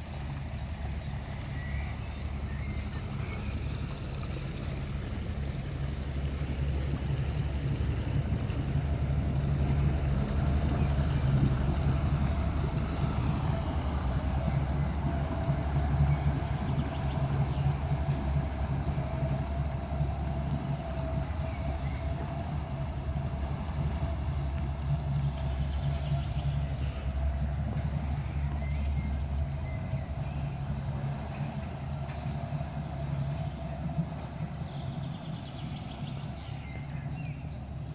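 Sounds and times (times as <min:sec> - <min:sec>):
boat engine low rumble: 0:00.0 - 0:37.9.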